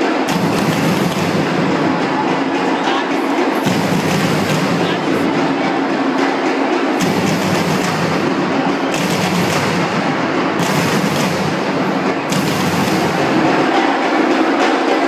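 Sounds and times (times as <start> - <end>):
samba drum section playing: 0.0 - 15.0.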